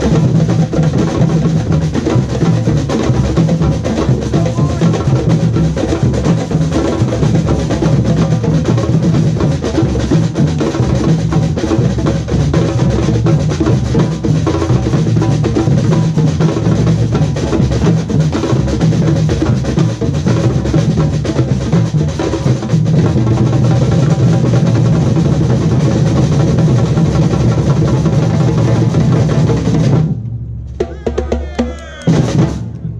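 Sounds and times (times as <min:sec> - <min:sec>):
deep bass drums: 0:00.0 - 0:32.9.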